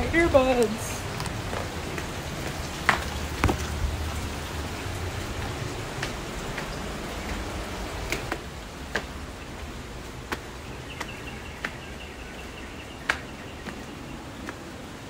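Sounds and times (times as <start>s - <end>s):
footsteps on stone steps: 0.2s - 4.5s, 5.2s - 14.9s.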